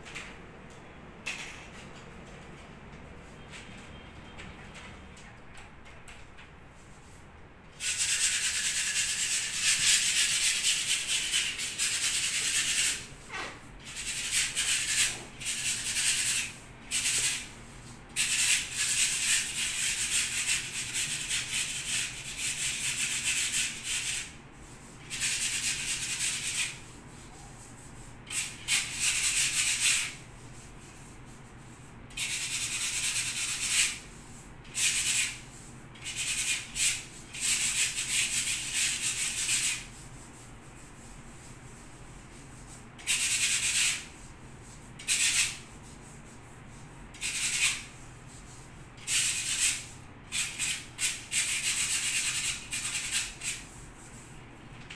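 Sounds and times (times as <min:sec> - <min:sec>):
sandpaper scraping a wall: 0:07.8 - 0:54.9.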